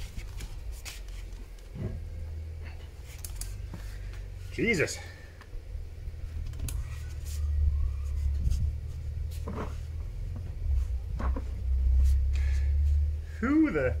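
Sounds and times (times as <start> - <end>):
low rumble: 1.4 - 13.4.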